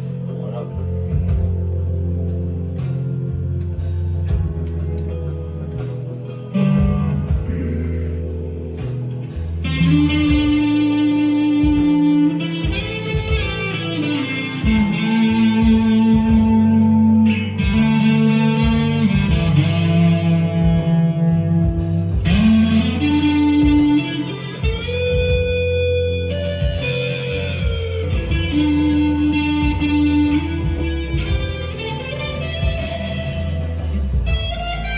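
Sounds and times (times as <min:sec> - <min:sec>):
bass and drums backing track: 0:00.0 - 0:34.9
overdriven electric guitar lead: 0:00.0 - 0:34.9.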